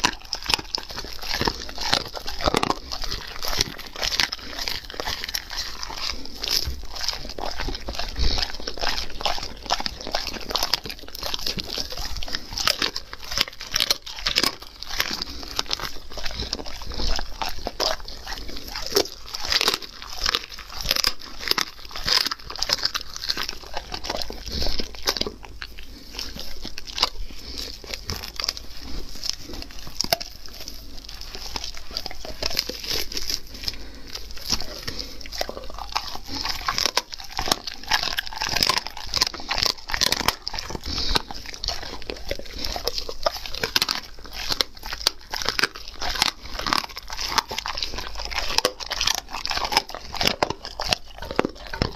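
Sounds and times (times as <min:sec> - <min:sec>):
dog chewing meat on bone: 0:00.0 - 0:51.9.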